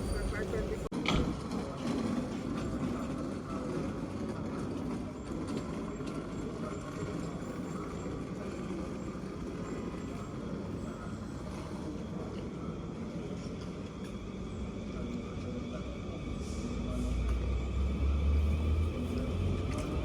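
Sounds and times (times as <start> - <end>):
train running: 0.0 - 20.0.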